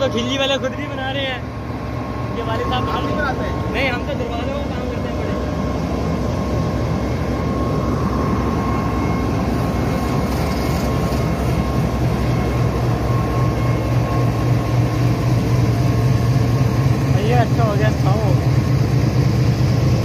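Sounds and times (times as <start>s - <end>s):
locomotive engine drone: 0.0s - 20.0s
thin steady whine: 0.0s - 20.0s.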